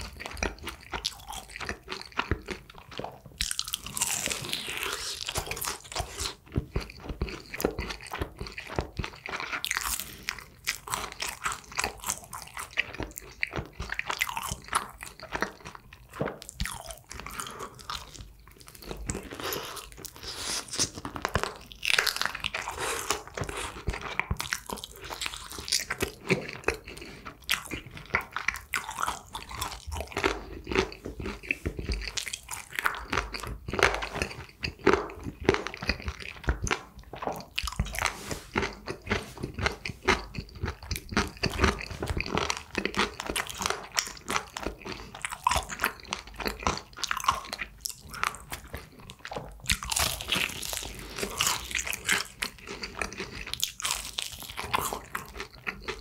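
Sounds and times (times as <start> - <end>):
crunchy fried chicken chewing: 0.0 - 56.0.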